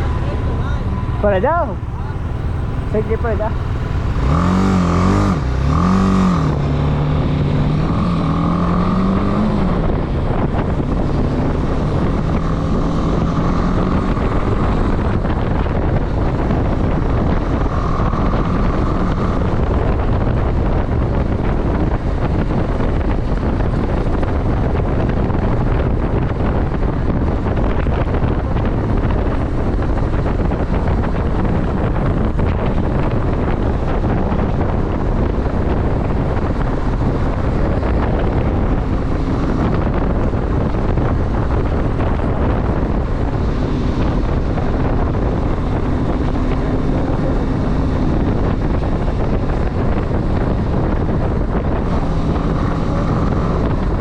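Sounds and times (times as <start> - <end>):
motorcycle engine accelerating: 0.0 - 54.0
wind rumble on microphone: 0.0 - 54.0.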